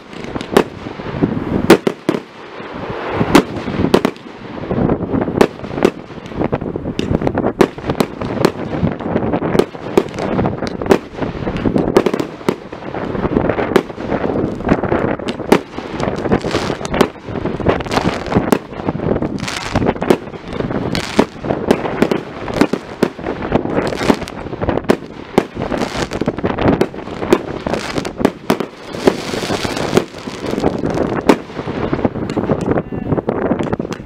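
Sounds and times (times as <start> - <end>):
fireworks bursting: 0.0 - 34.0.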